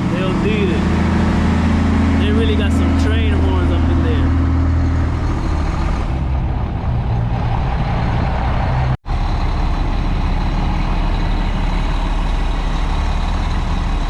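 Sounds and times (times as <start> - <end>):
heavy truck engine running: 0.0 - 14.0.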